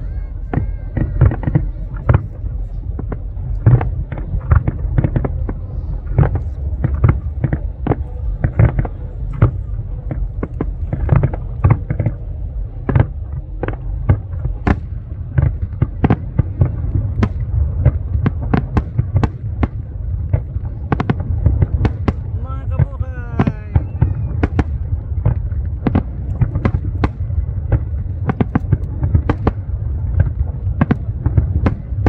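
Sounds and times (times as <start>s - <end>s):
fireworks bursting: 0.0s - 32.0s
low rumble: 0.0s - 32.0s.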